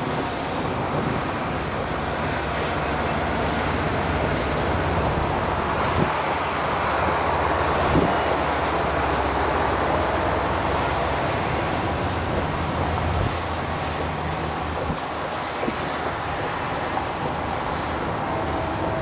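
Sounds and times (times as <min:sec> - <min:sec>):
vehicle road and engine noise: 0:00.0 - 0:19.0.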